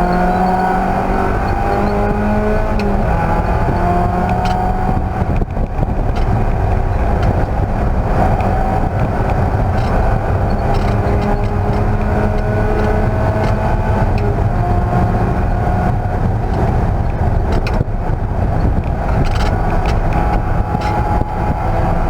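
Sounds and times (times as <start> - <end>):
race car engine running hard: 0.0 - 22.0
sharp clicks: 0.1 - 21.7.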